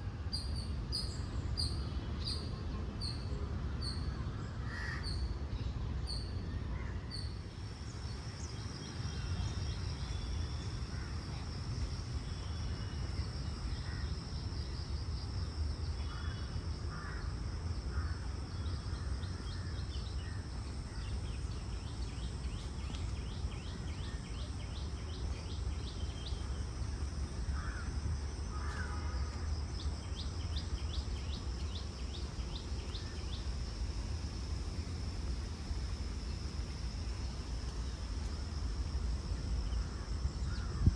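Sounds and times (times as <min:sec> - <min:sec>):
high insect drone: 0:07.3 - 0:40.9.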